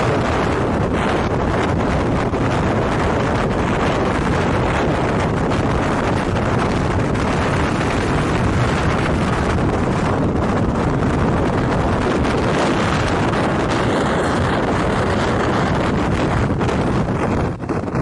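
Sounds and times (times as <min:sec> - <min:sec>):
strong wind blowing: 0:00.0 - 0:18.0.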